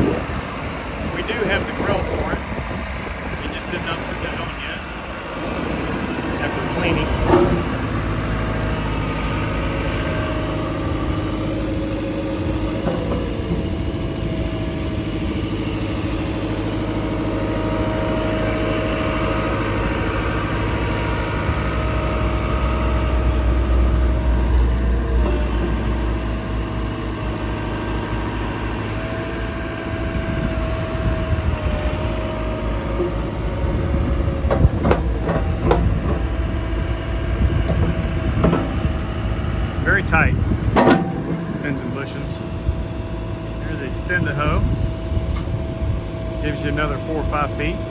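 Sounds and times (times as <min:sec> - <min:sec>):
diesel engine running: 0:00.0 - 0:47.9
thin machine whine: 0:00.0 - 0:47.9.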